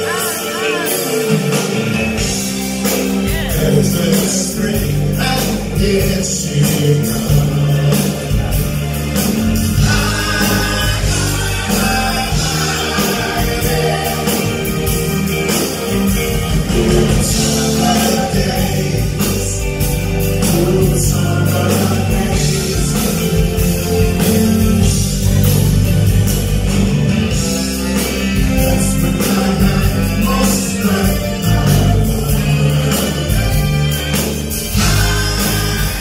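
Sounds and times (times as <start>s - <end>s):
bass guitar: 0.0s - 36.0s
drums: 0.0s - 36.0s
keyboard: 0.0s - 36.0s
man singing: 2.8s - 26.8s, 27.5s - 36.0s.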